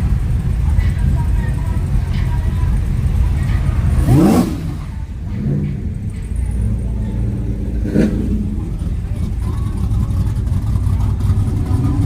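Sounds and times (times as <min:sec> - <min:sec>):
car engine revving: 0:01.6 - 0:12.0.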